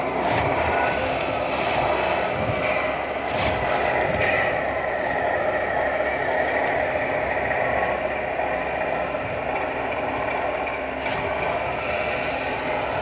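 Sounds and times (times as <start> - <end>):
toy truck motor and gear whir: 0.0 - 13.0.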